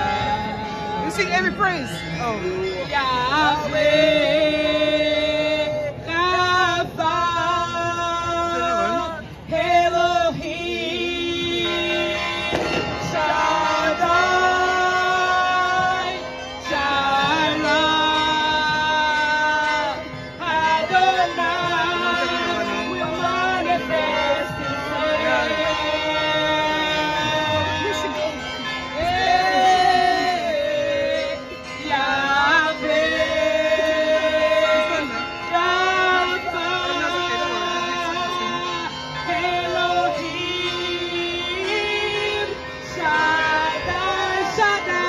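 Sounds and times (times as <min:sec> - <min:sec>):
backing music: 0:00.0 - 0:45.0
woman singing into microphone: 0:02.4 - 0:28.4, 0:29.0 - 0:45.0.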